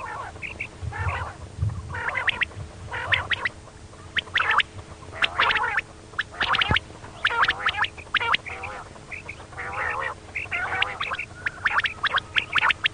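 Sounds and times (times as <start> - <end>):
quail raspy calls: 0.0 - 12.9.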